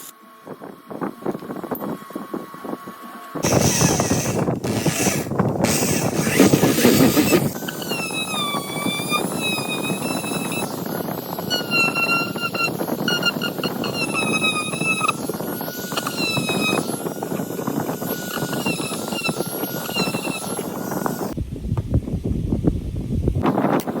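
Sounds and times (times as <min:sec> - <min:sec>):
small electric motor whine: 0:00.0 - 0:21.4.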